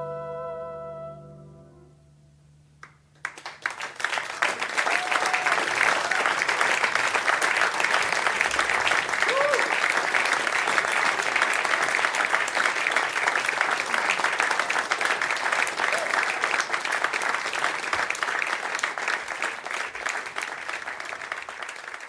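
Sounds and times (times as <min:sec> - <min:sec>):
audience applauding: 0:02.8 - 0:22.0.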